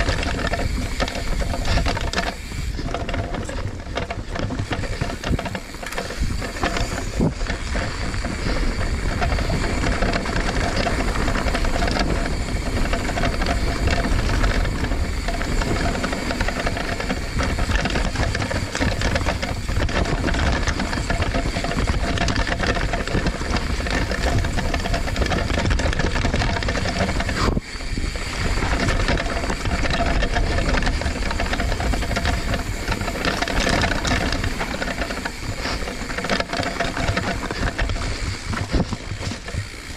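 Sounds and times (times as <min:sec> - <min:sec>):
bike rattling on rocky trail: 0:00.0 - 0:39.9.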